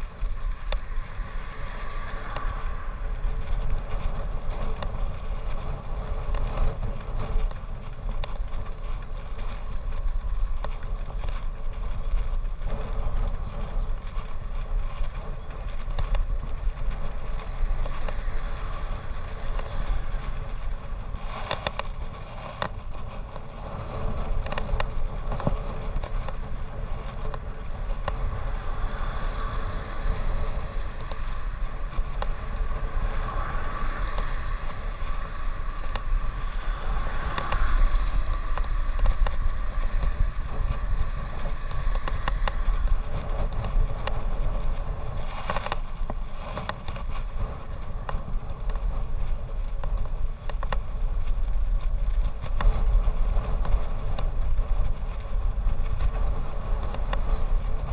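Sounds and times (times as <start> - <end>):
motor vehicle passing: 0.0 - 10.2, 12.6 - 49.8
road noise rumble: 0.0 - 57.9
wind buffeting microphone: 0.0 - 57.9.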